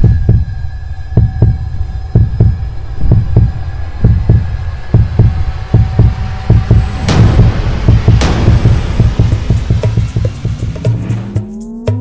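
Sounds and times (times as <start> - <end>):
low double thump: 1.2 - 11.3.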